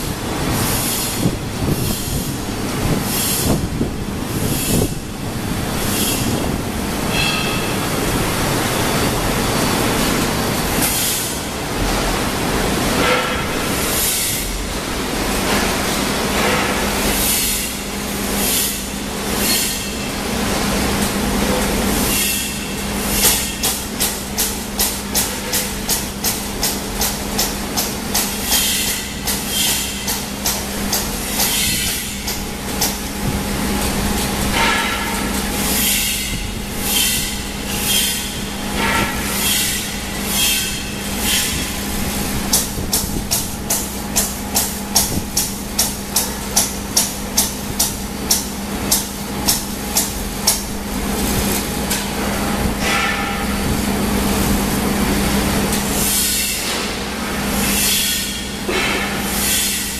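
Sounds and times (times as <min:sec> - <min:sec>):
machine hum: 0:00.0 - 0:57.9.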